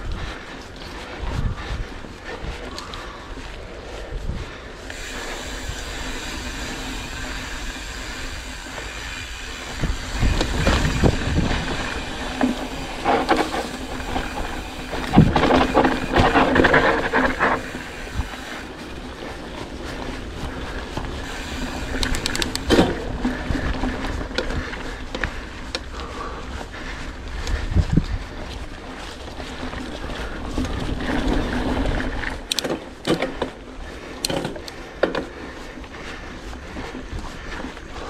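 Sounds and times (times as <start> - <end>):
bike chain and frame rattling: 0.0 - 38.0
bike tyres rolling on dirt: 0.0 - 38.0.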